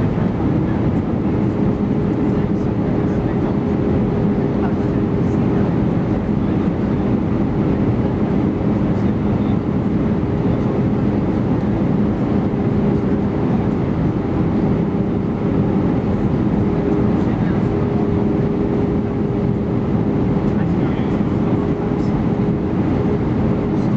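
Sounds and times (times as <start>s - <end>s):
jet engines humming: 0.0s - 23.9s.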